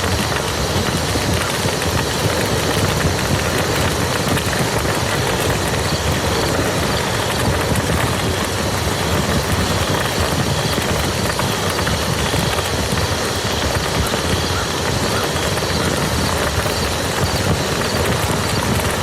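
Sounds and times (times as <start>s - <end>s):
rain falling on a field: 0.0s - 19.0s.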